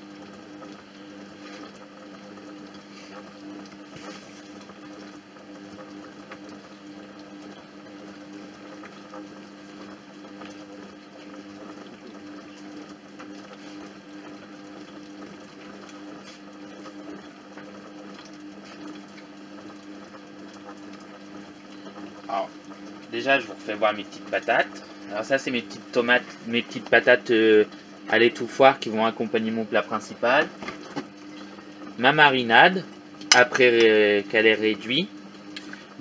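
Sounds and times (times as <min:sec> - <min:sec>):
faint liquid sounds: 0:00.0 - 0:36.0
kitchen robot motor hum: 0:00.0 - 0:36.0.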